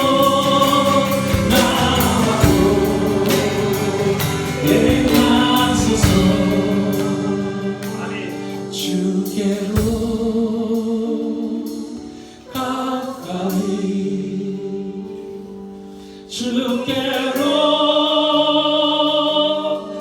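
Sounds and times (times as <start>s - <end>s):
choir singing slow worship song: 0.0s - 20.0s.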